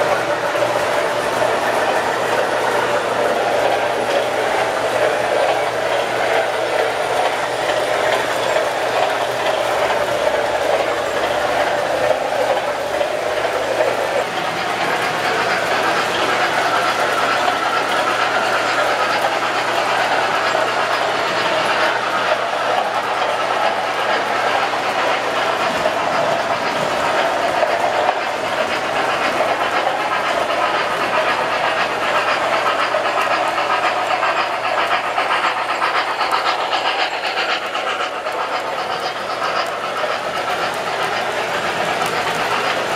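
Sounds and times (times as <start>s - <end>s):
clicking over rail joints: 0.0s - 42.9s
model train wheels rumbling: 0.0s - 42.9s.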